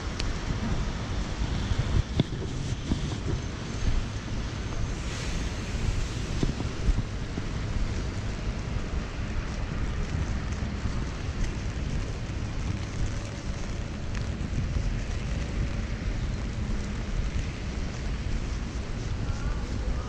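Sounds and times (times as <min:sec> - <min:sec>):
rain on an umbrella: 0:00.0 - 0:20.0
traffic on wet road: 0:00.0 - 0:20.0
wind rumbling on microphone: 0:00.0 - 0:20.0.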